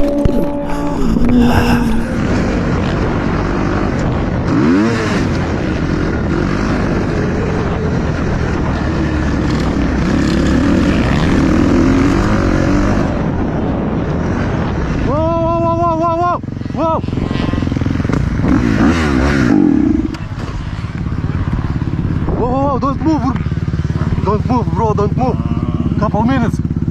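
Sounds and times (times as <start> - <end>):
wind rush on microphone: 0.0 - 23.4
motorcycle engine: 0.0 - 26.9.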